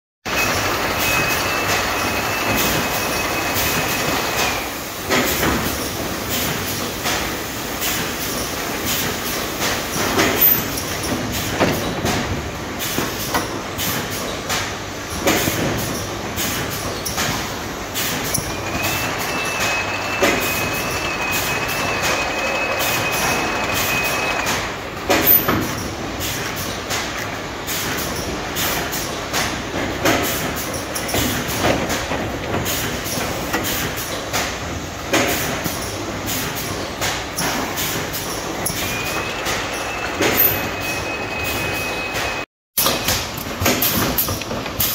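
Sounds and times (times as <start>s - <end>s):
conveyor mechanical noise: 0.3s - 44.9s.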